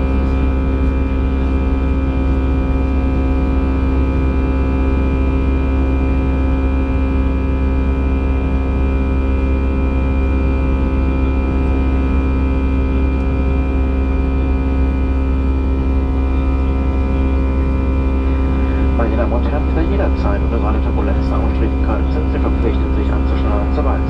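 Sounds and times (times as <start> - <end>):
airplane cabin engine drone: 0.0 - 24.0.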